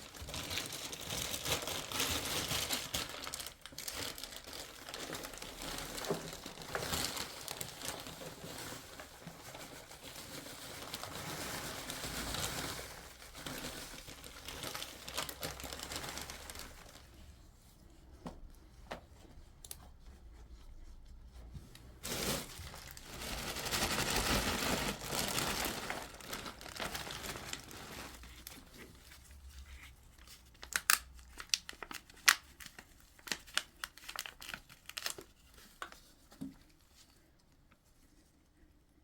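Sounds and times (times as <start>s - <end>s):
crinkling and rustling: 0.0s - 39.0s.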